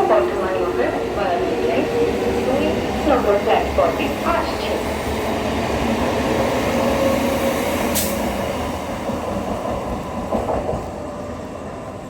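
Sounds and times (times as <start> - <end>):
electric train rumbling on tracks: 0.0 - 12.0.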